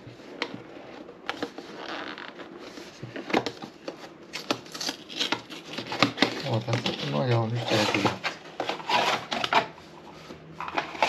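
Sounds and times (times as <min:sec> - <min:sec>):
box rustling: 0:00.3 - 0:11.0.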